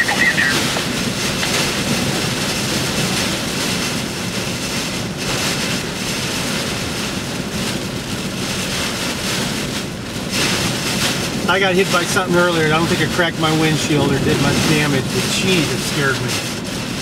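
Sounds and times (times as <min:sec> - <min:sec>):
wind and rain against car: 0:00.0 - 0:17.0.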